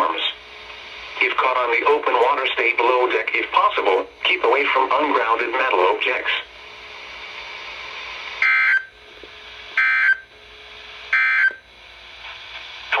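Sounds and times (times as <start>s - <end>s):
radio hiss: 0.0s - 9.8s, 11.8s - 13.0s.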